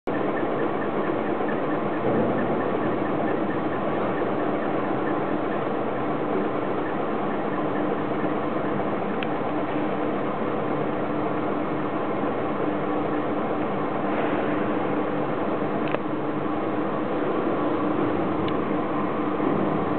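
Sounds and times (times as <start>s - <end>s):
test rig mechanical hum: 0.0s - 19.9s.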